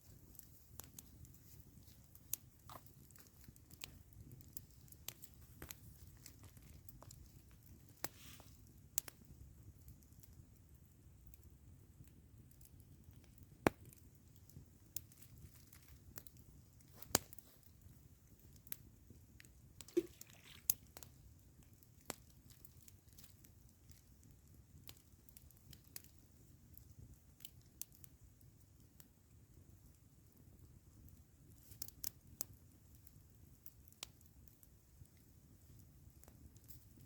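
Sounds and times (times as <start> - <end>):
campfire crackling: 0.0 - 37.0
fire pops and snaps: 0.0 - 37.0.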